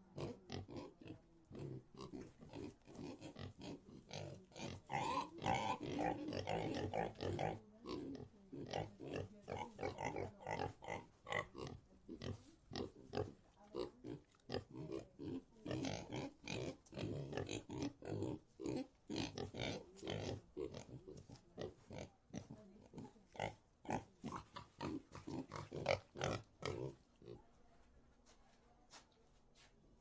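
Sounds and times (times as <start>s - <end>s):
pigs grunting: 0.2s - 27.4s.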